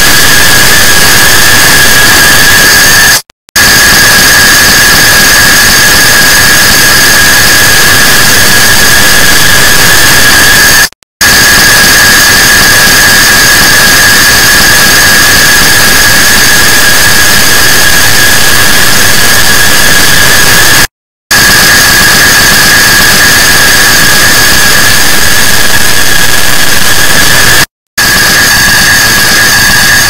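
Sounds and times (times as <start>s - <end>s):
high whining tones: 0.0s - 30.0s.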